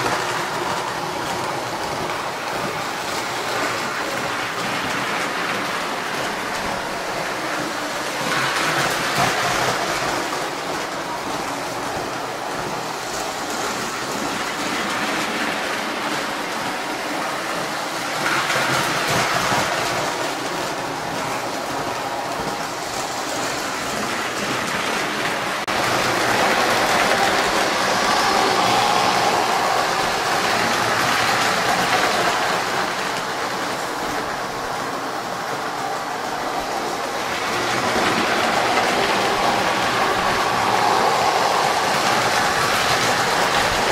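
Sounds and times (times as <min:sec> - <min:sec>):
toy electric train running: 0:00.0 - 0:43.9.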